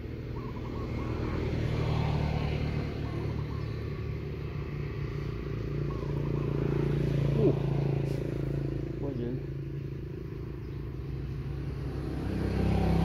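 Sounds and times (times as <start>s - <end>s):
small engine droning: 0.0s - 13.0s.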